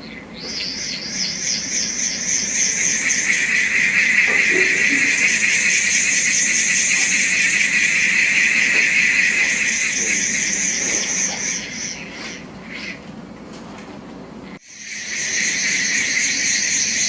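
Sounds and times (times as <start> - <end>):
shrill cicada-like buzz: 0.5 - 12.4, 14.6 - 17.0.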